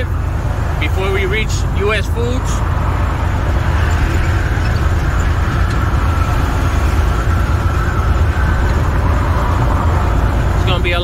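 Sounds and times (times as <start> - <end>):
diesel truck engine drone: 0.0 - 11.0
tyre and road noise: 0.0 - 11.0.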